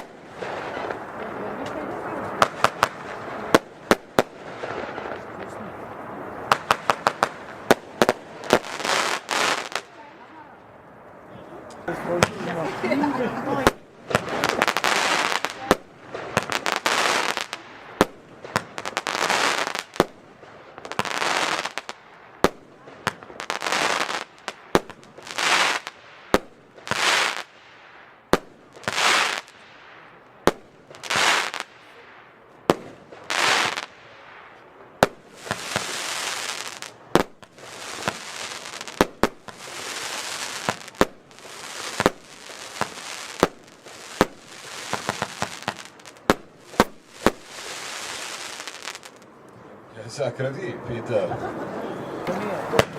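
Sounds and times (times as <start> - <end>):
fireworks hissing bursts: 0.0 - 10.3, 11.8 - 49.2
fireworks bangs: 0.0 - 49.4, 50.4 - 52.9.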